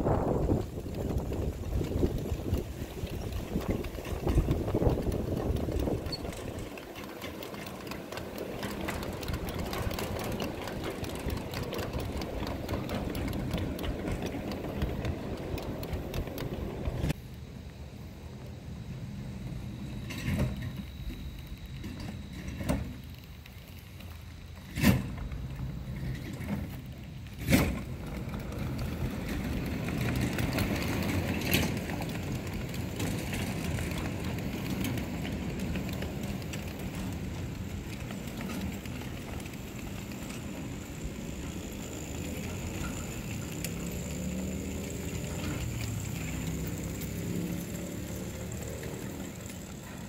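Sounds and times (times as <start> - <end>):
scale freight cars rumbling on track: 0.0 - 50.0.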